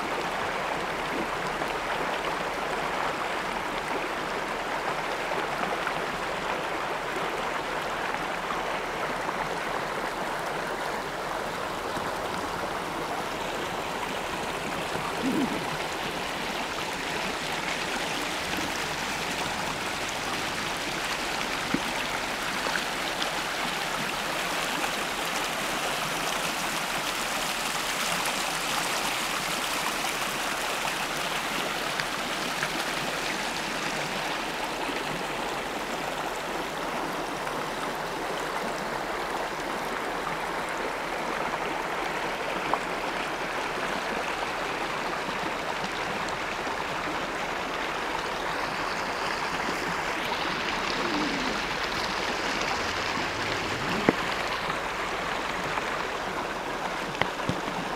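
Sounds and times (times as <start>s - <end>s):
creek babbling: 0.0s - 57.9s.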